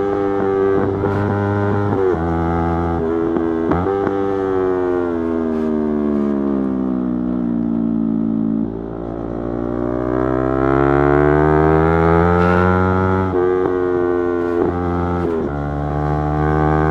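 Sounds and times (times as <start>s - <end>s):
motorcycle engine slowing and accelerating: 0.0s - 16.9s.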